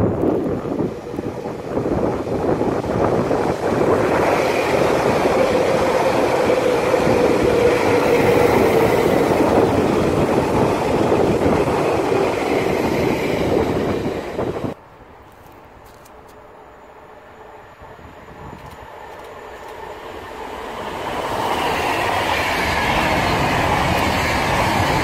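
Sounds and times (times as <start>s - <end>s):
train wheels rushing on track: 0.0s - 14.8s, 15.8s - 25.0s
train hum: 0.0s - 25.0s.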